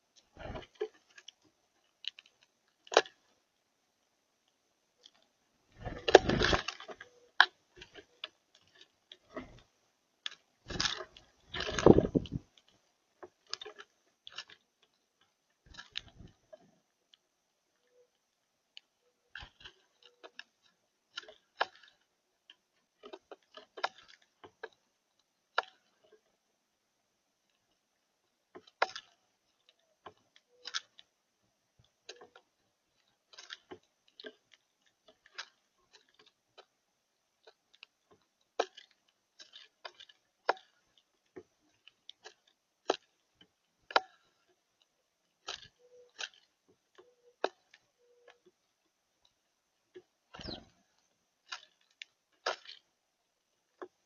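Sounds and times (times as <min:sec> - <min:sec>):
birds pecking at seed: 0:00.0 - 0:54.0.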